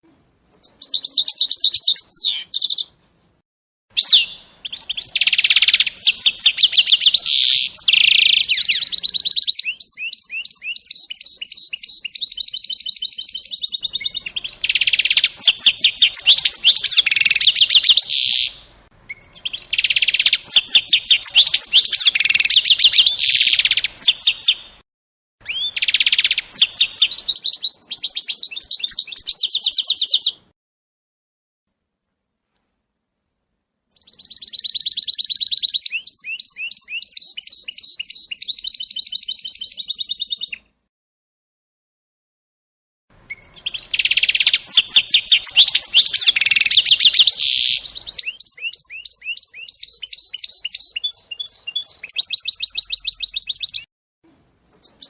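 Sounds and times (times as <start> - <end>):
songbird trilling and chirping: 0.5 - 2.9, 4.0 - 24.8, 25.4 - 30.4, 33.9 - 40.6, 43.3 - 53.9, 54.7 - 55.0.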